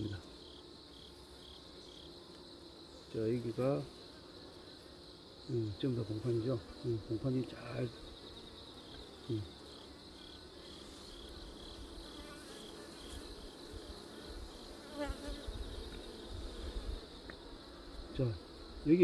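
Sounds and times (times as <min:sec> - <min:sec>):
bee buzzing close by: 0:00.0 - 0:19.0
crickets chirping: 0:00.0 - 0:19.0
honeybees buzzing: 0:00.0 - 0:19.0.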